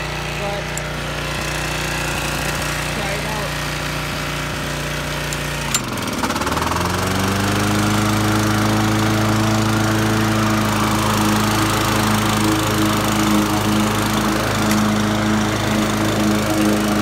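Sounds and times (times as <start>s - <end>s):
lawnmower engine running: 0.0s - 17.0s.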